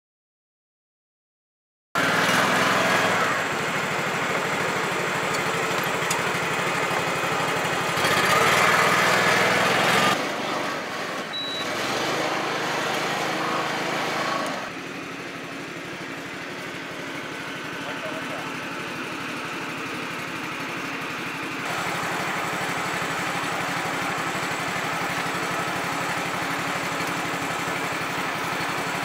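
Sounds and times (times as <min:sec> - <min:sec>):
rice transplanter engine running: 0:02.0 - 0:29.0.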